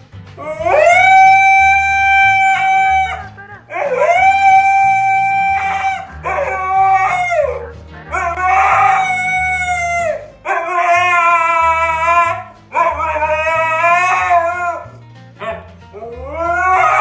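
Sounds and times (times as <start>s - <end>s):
background music with bassline: 0.0s - 17.0s
dog howling: 0.4s - 17.0s.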